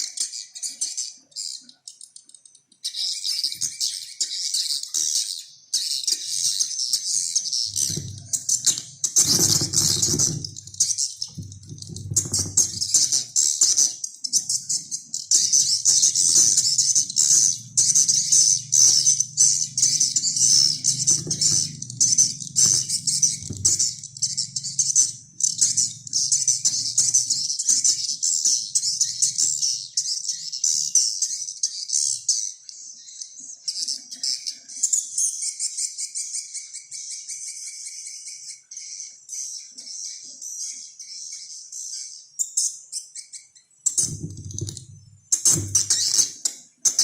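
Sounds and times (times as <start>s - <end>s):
high-pitched bird chirping: 0.0s - 47.0s.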